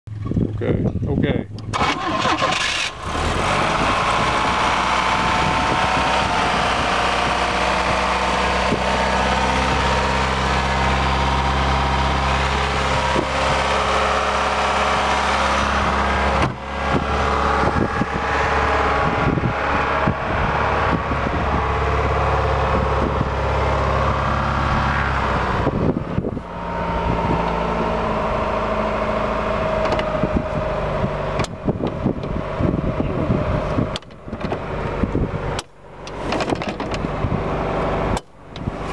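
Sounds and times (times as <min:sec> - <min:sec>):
car engine idling: 0:01.5 - 0:38.9.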